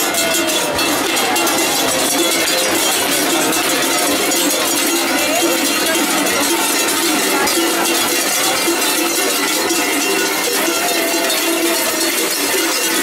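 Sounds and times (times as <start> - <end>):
cowbells ringing and jangling: 0.0 - 13.0.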